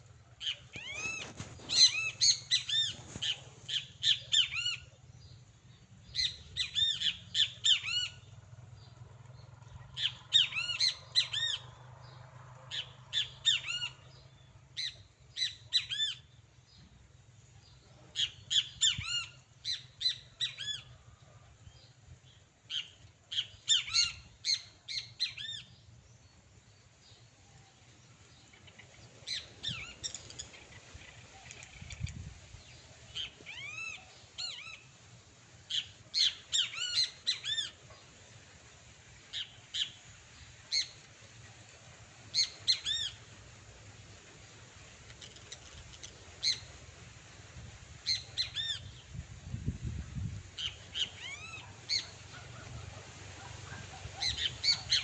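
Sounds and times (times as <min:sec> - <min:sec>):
birds calling harshly: 0:00.3 - 0:16.4, 0:18.1 - 0:21.4, 0:22.3 - 0:25.9, 0:28.0 - 0:49.3, 0:50.5 - 0:55.0.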